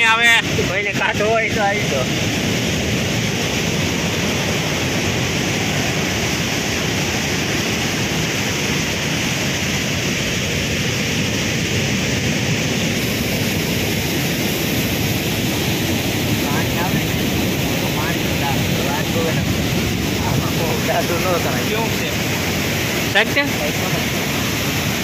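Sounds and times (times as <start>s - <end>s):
sea surf: 0.0s - 25.0s
wind: 0.0s - 25.0s.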